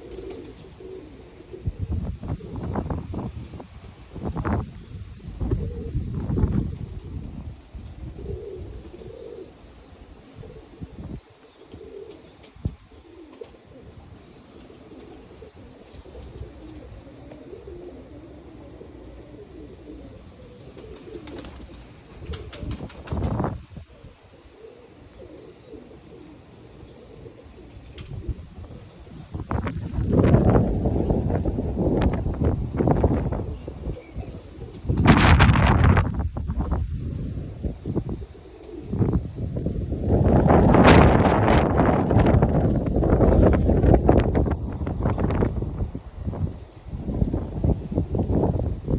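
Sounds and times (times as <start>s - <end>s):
pigeons cooing: 0.0s - 48.9s
wind gusting on microphone: 0.0s - 48.9s.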